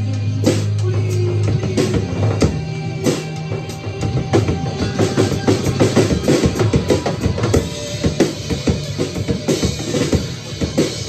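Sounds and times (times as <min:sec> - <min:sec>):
drum kit played hard: 0:00.0 - 0:11.0
rock song guitars and bass: 0:00.0 - 0:11.0.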